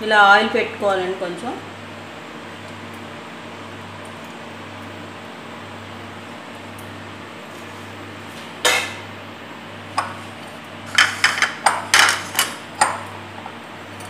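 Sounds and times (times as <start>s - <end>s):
cooktop low hum: 0.0s - 14.0s.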